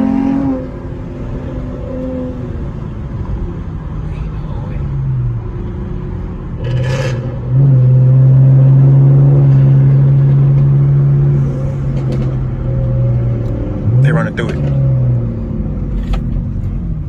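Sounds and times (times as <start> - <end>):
car engine and exhaust droning: 0.0 - 17.0.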